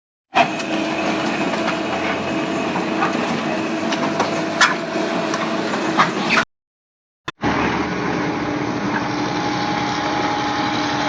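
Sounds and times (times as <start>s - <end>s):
concrete mixer pump droning: 0.3s - 6.5s, 7.3s - 11.0s.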